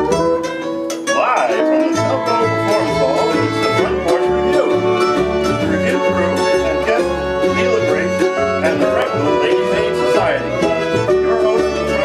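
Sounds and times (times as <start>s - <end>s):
acoustic string band playing: 0.0s - 12.0s.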